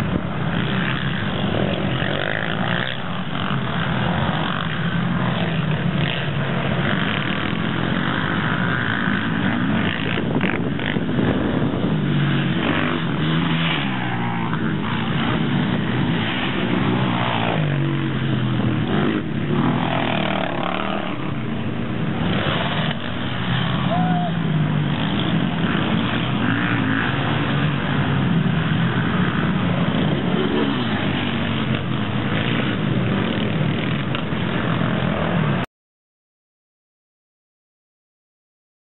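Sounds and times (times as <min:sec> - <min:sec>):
quad bike engines revving: 0:00.0 - 0:35.7.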